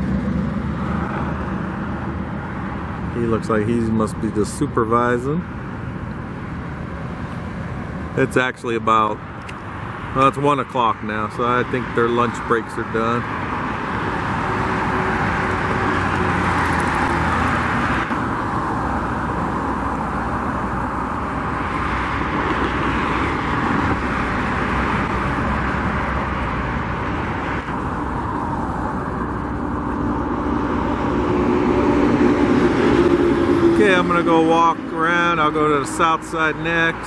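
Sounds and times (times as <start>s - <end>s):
road traffic noise: 0.0s - 37.0s
vehicle engine hum: 0.0s - 37.0s.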